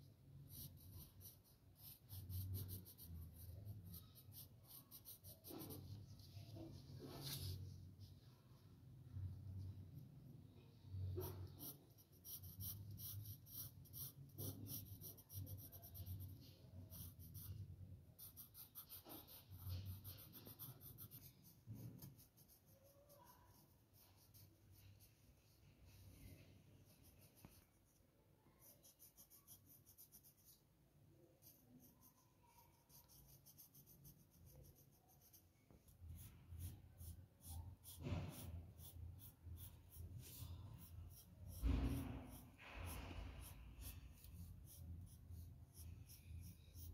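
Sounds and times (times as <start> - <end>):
pencil scratching on paper: 0.0 - 8.1, 10.9 - 30.7, 31.4 - 46.9.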